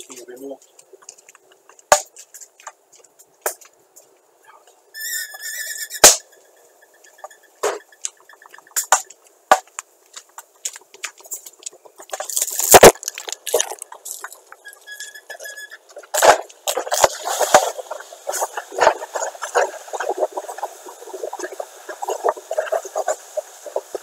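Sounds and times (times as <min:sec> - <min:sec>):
fire crackling with sharp pops: 0:00.0 - 0:24.0.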